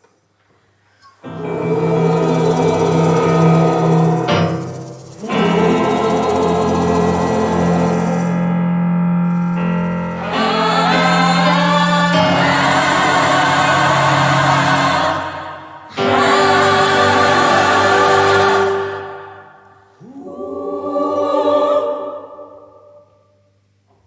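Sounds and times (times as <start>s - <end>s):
gospel choir singing chords: 1.2s - 23.2s.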